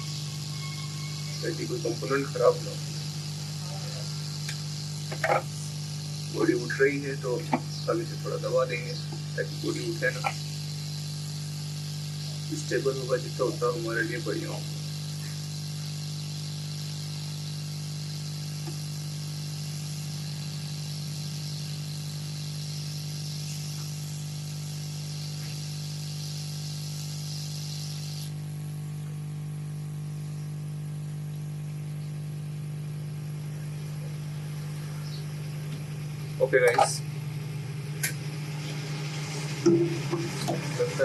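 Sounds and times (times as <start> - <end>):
hot-air gun humming: 0.0 - 29.2, 31.7 - 41.0.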